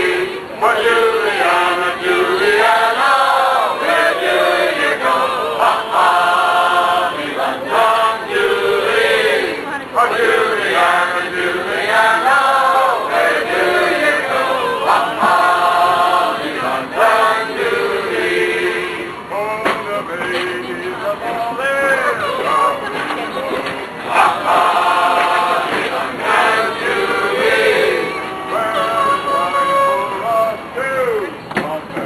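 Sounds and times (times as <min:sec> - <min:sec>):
group chanting in song: 0:00.0 - 0:19.2, 0:20.1 - 0:30.2.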